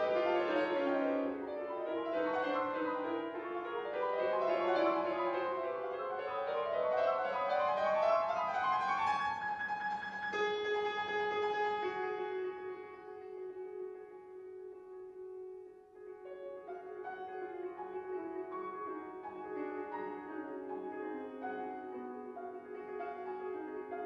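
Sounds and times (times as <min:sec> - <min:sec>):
solo grand piano: 0:00.0 - 0:24.0.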